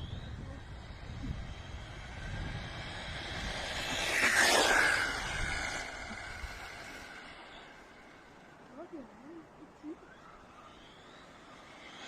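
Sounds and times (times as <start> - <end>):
rc car motor whine: 0.0 - 12.0.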